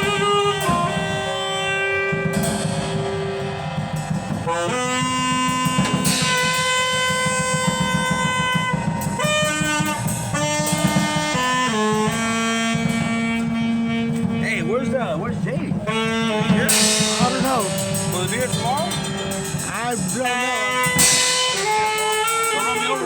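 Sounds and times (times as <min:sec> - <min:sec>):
drum beat: 0:00.0 - 0:23.0
held horn-like chords: 0:00.0 - 0:23.0.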